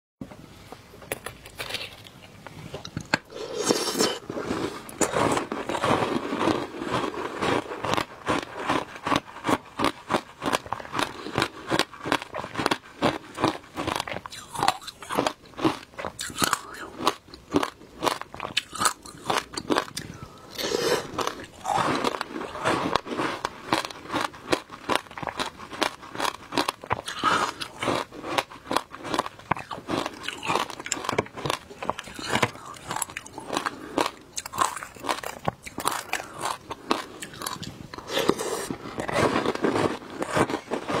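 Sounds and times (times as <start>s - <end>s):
ice crunching in mouth: 2.9s - 41.0s.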